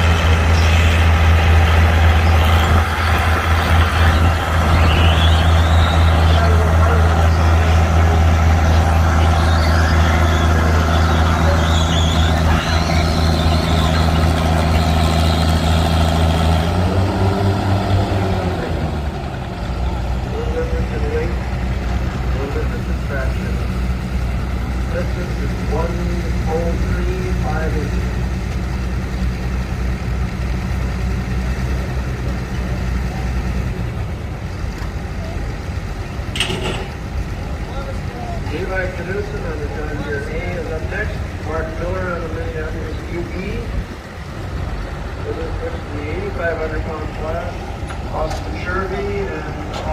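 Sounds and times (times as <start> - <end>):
tractor engine droning: 0.0 - 49.9.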